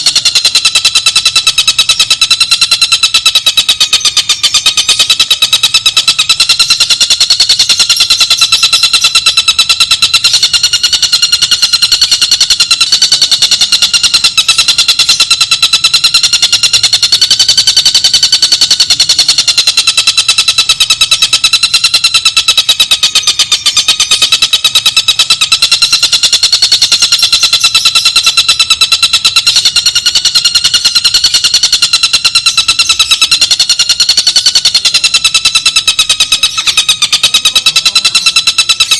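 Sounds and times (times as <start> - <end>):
fast rattling bird trill: 0.0 - 38.9.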